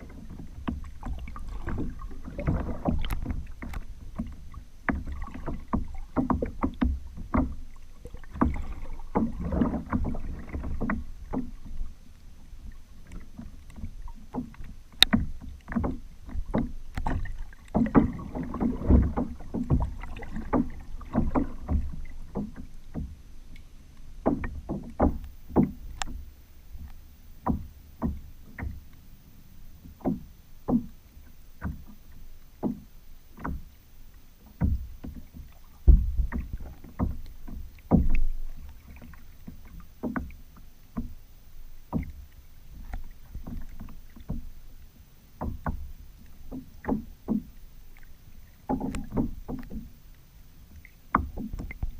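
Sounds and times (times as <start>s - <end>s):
water splashing against hull: 0.0s - 51.9s.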